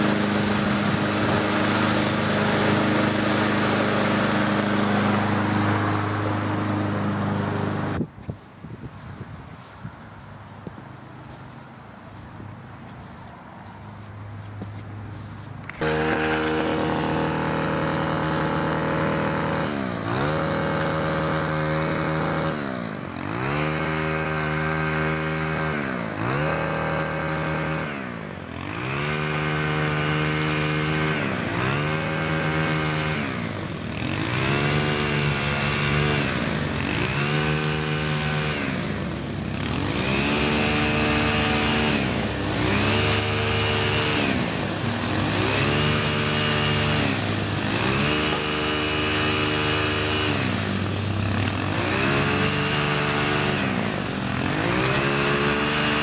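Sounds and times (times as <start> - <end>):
string trimmer engine revving: 0.0 - 8.1, 13.0 - 56.0.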